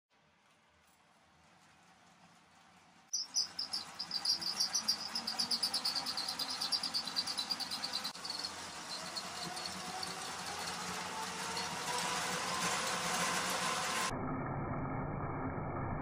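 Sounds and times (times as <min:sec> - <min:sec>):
treadmill motor hum: 0:00.2 - 0:14.1
wooden model wheels clattering: 0:00.6 - 0:14.1.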